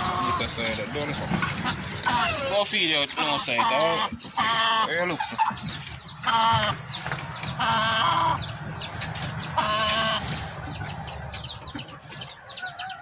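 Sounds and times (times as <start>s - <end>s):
chickens squawking: 0.0s - 13.0s.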